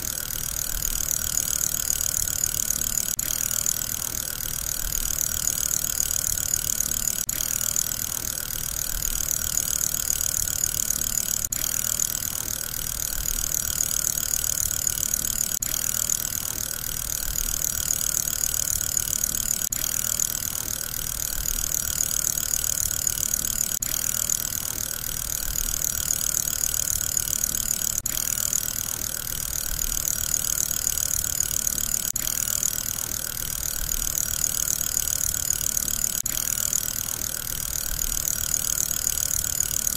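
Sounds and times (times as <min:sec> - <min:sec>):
fidget spinner bearing whirring: 0:00.0 - 0:39.9.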